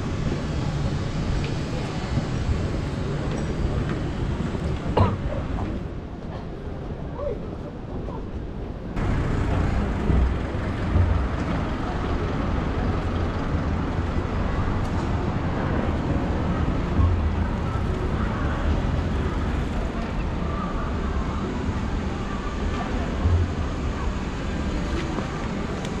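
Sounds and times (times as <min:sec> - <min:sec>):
crowd noise: 0:00.0 - 0:26.0
traffic: 0:00.0 - 0:26.0.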